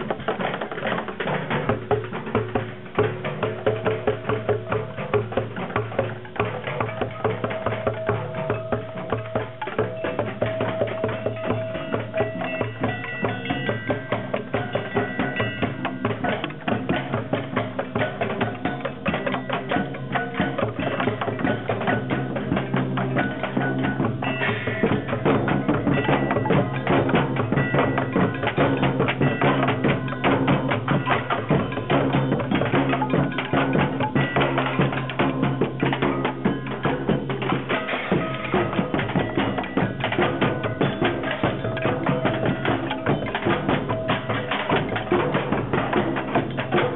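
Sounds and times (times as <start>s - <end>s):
percussion group drumming: 0.0s - 46.9s.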